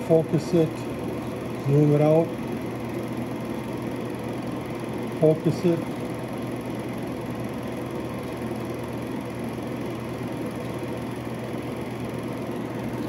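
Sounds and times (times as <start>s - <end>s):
film projector running: 0.0s - 13.0s.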